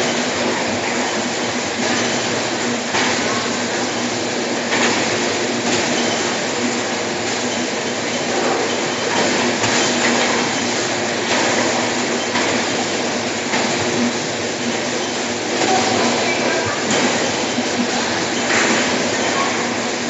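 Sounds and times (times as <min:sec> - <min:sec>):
conveyor machinery running: 0:00.0 - 0:20.0.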